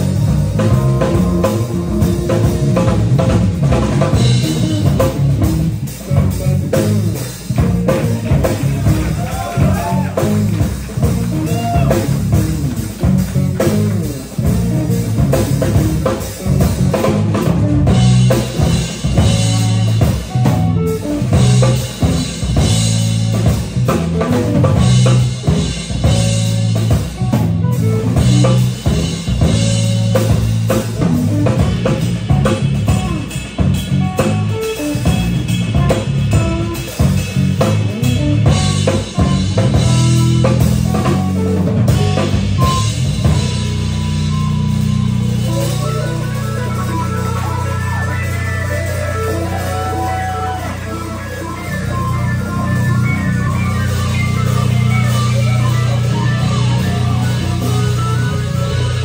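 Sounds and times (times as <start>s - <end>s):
drum kit: 0.0s - 59.0s
electric bass line: 0.0s - 59.0s
electric guitar: 0.0s - 59.0s.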